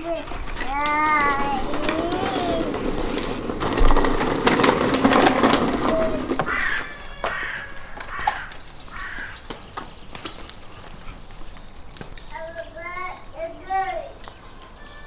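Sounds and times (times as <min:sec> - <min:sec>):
toy car wheels rattling on bricks: 0:00.0 - 0:15.0.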